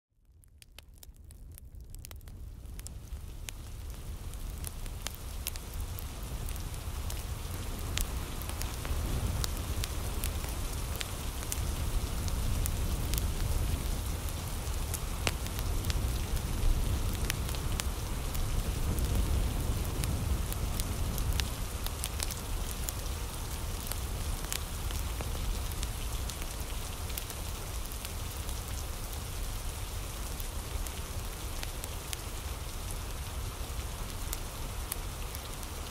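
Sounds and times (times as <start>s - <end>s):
wood fire crackling: 0.2s - 35.9s
steady rain: 0.3s - 35.9s.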